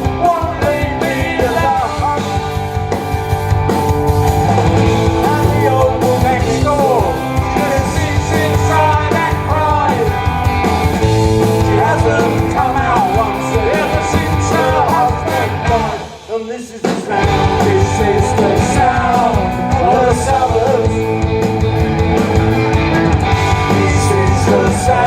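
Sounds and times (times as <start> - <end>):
punk rock band playing live: 0.0 - 25.0.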